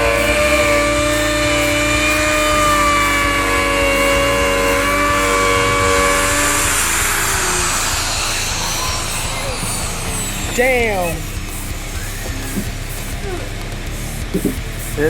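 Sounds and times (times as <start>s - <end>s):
power tool motor whining: 0.0s - 15.0s.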